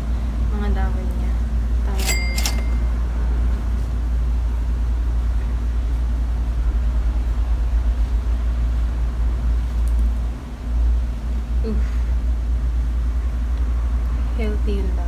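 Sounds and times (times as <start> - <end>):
deep rumble: 0.0 - 2.0, 2.6 - 15.0.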